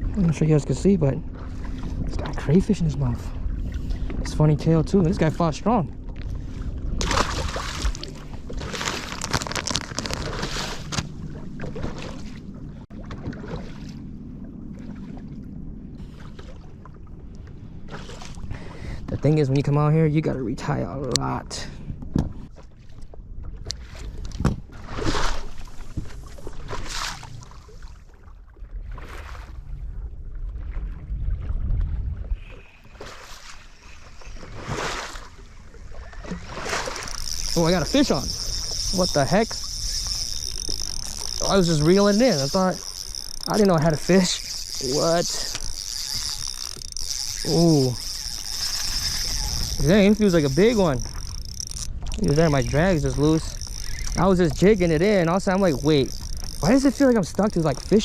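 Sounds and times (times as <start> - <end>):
wind and water rushing: 0.0 - 20.8, 23.7 - 58.0.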